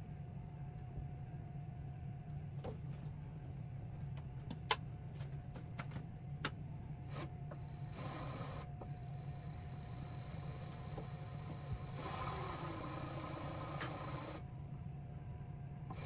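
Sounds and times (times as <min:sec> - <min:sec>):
low motor hum: 0:02.2 - 0:16.0.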